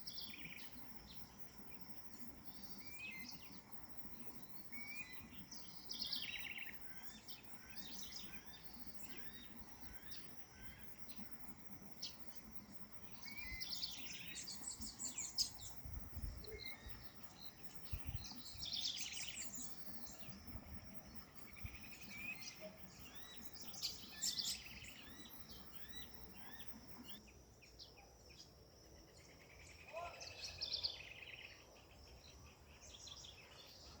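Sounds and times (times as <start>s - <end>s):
faint insect drone: 0.0s - 34.0s
songbirds chirping: 0.0s - 34.0s.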